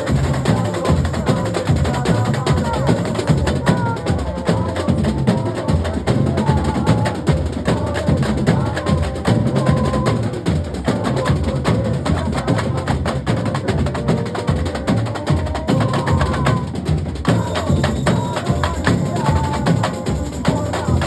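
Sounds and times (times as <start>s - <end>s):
carnival drum rhythm: 0.0s - 21.0s
deep drums: 0.0s - 21.0s.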